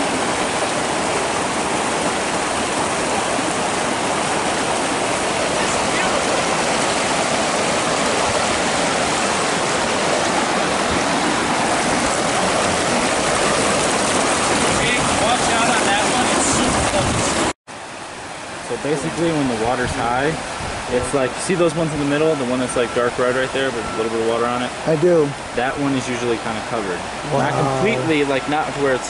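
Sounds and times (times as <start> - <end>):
creek flowing over rocks: 0.0 - 29.0.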